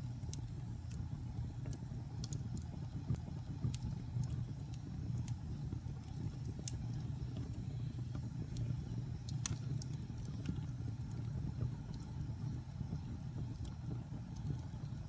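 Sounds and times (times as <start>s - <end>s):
fire crackles and pops: 0.0s - 15.0s
fire rumbling in fireplace: 0.0s - 15.0s.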